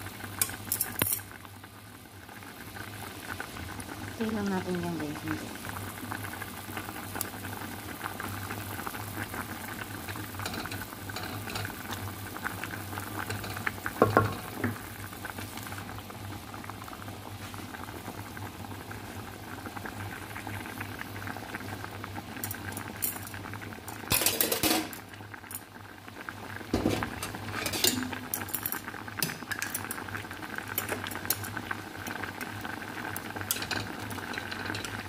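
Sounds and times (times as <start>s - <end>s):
soup boiling and bubbling: 0.0s - 35.0s.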